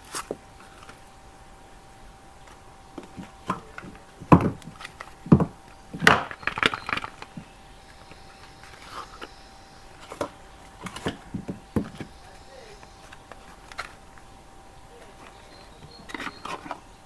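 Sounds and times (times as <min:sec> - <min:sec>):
packaging crinkling: 0:01.8 - 0:17.0.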